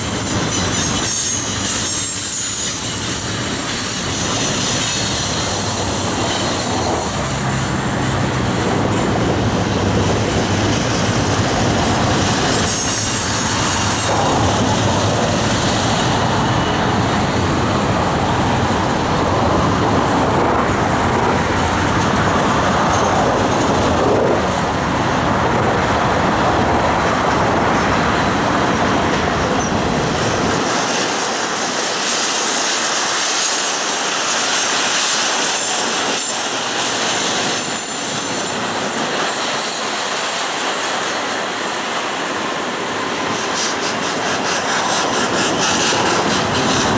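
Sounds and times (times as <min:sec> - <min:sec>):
train wheels clattering on track: 0:00.0 - 0:46.9.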